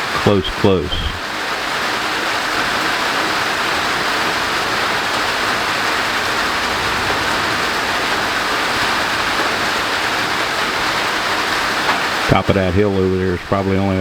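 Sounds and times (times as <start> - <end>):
heavy rain on roof: 0.0 - 14.0.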